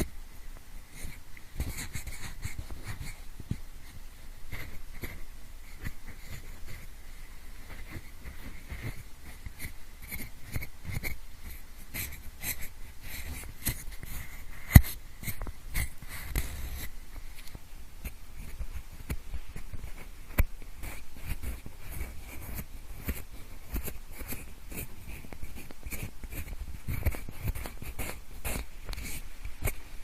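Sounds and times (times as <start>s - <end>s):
pencil scratching: 0.9s - 3.2s, 4.5s - 6.9s, 7.7s - 16.9s, 19.6s - 29.8s.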